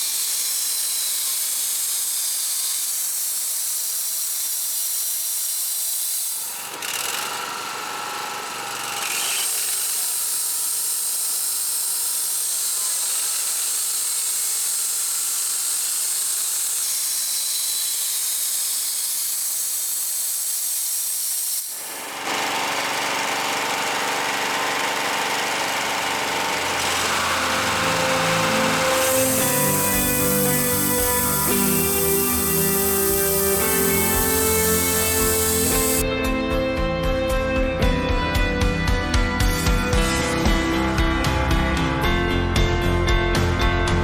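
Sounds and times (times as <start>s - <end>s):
band saw blade cutting log: 0.0s - 36.0s.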